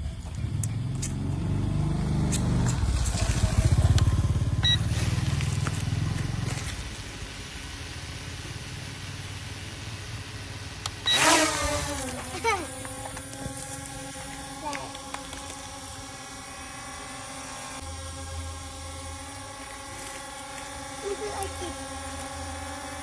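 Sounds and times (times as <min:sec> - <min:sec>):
toy drone propellers buzzing: 0:00.2 - 0:23.0.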